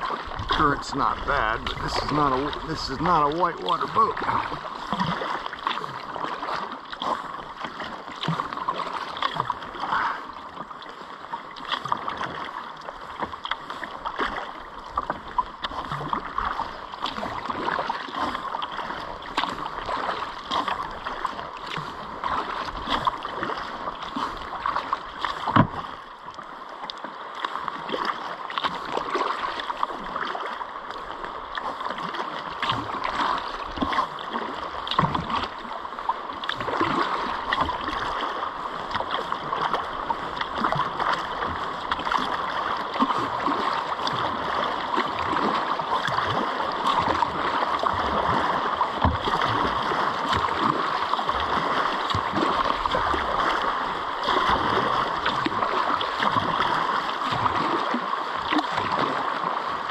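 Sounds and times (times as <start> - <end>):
paddle splashes: 0.0 - 59.9
river current rippling around kayak: 0.0 - 59.9.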